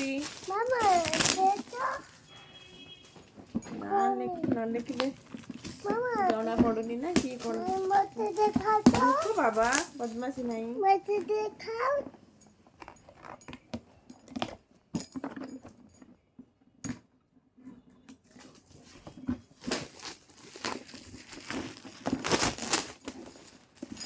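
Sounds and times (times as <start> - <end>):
gift wrapping rustling: 0.0 - 14.5, 18.3 - 24.0.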